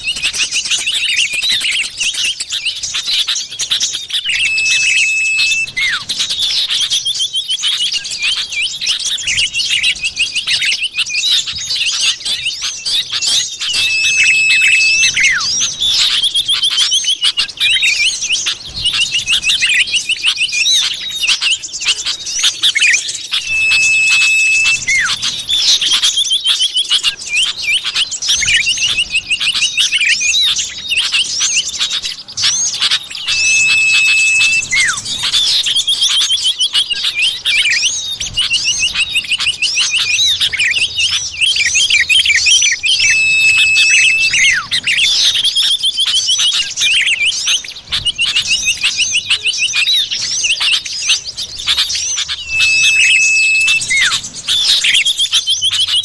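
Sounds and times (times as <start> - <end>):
bird chirps and trills: 0.0 - 56.0
long level bird whistle: 0.0 - 56.0.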